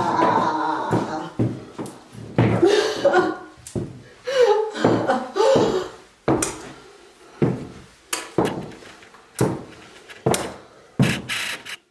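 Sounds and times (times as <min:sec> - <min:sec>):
boot heels on hardwood floor: 0:00.0 - 0:04.1, 0:04.8 - 0:06.8, 0:07.4 - 0:11.3.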